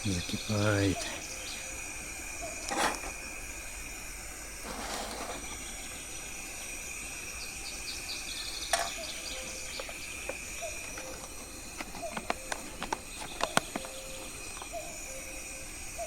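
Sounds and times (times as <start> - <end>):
faint bird chirps: 0.0 - 4.3, 5.2 - 16.0
outdoor background hiss: 0.0 - 16.0.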